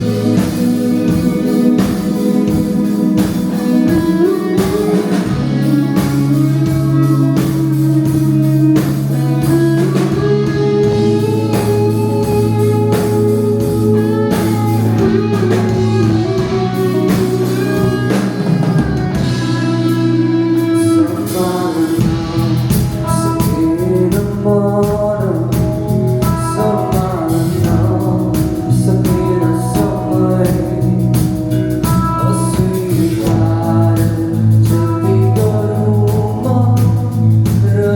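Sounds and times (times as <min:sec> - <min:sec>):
drum kit beat: 0:00.0 - 0:37.9
guitar and bass: 0:00.0 - 0:37.9
person singing: 0:00.0 - 0:37.9.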